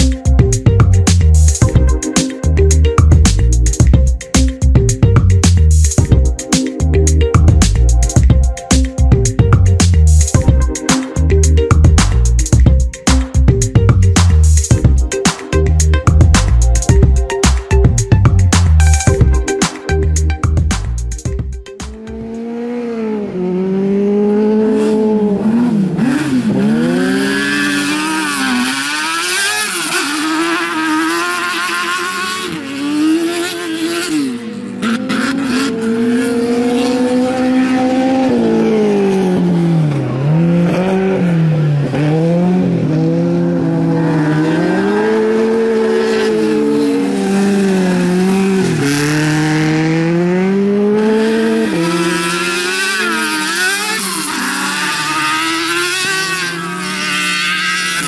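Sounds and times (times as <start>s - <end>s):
racing buggy engine: 0.0s - 58.0s.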